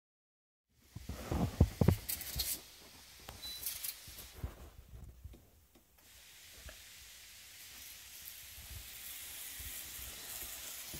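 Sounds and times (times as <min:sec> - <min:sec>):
faint steady hiss: 0:00.7 - 0:10.9
short hiss bursts: 0:00.8 - 0:04.9, 0:05.7 - 0:10.9.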